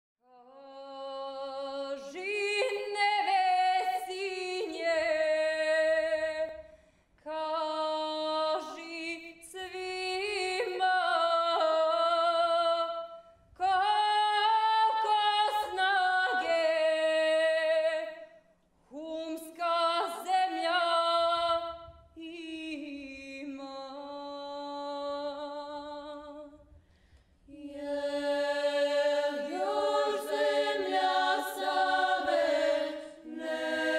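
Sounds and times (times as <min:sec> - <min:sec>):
women singing a cappella: 0:00.4 - 0:06.7, 0:07.3 - 0:18.3, 0:18.9 - 0:26.6, 0:27.5 - 0:33.9.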